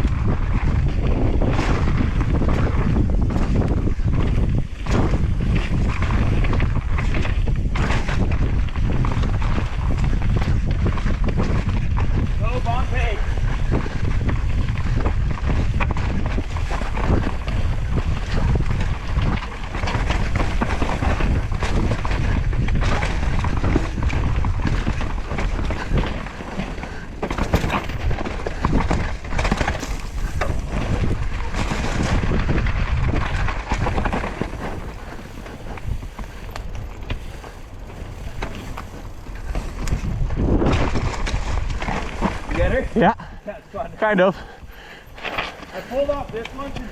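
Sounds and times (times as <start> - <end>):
bike clicks and rattles: 0.0 - 46.9
wind buffeting microphone: 0.0 - 46.9
tyres rumbling on dirt: 0.1 - 46.9.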